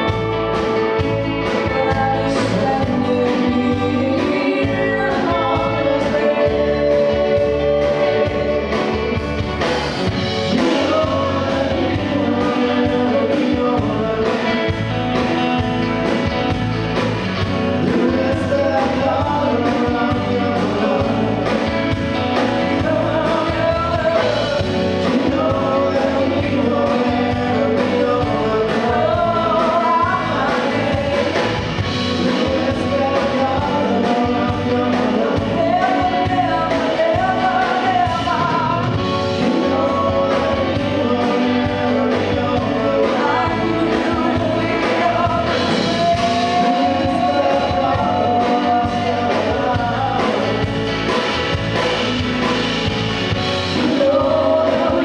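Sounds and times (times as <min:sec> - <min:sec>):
woman singing lead: 0:00.0 - 0:16.7, 0:17.4 - 0:52.5, 0:53.3 - 0:55.0
live band playing: 0:00.0 - 0:55.0.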